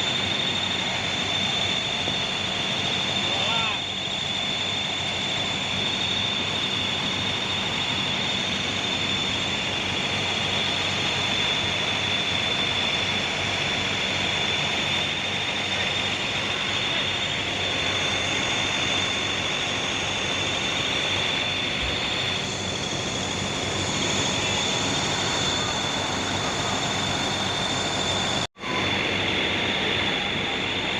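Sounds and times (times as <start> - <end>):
high-pitched whine: 0.0 - 30.9.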